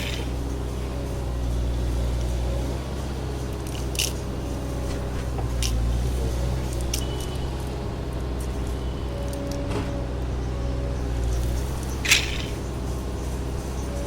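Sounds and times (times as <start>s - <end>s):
small motor humming: 0.0s - 14.0s.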